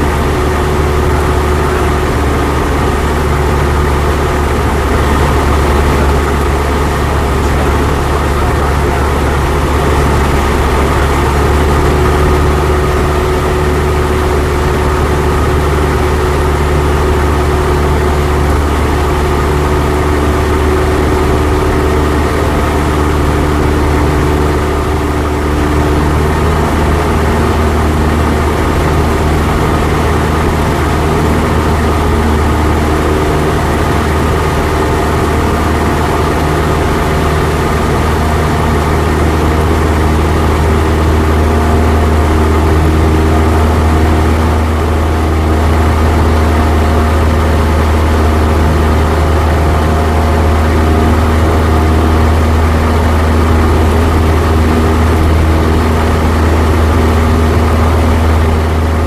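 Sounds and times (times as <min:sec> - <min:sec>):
airplane engine droning in cabin: 0:00.0 - 0:59.0.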